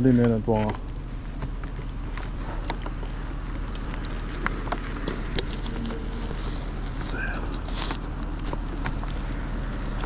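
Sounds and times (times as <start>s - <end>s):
light clicks and rustles: 0.0s - 10.0s
low outdoor rumble: 0.0s - 10.0s.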